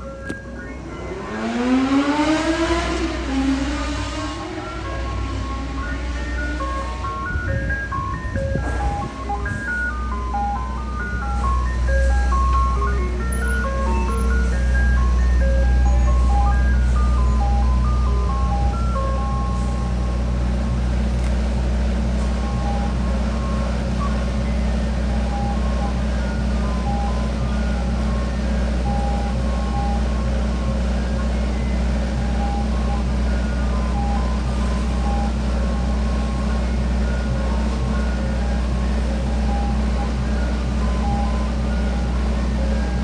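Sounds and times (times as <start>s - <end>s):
ice cream truck chime tune: 0.0s - 2.0s, 4.2s - 43.0s
truck engine running: 0.0s - 43.0s.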